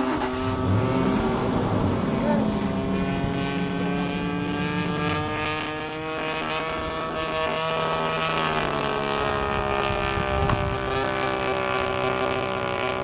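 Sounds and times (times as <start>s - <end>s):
model plane engine buzzing: 0.0s - 13.0s.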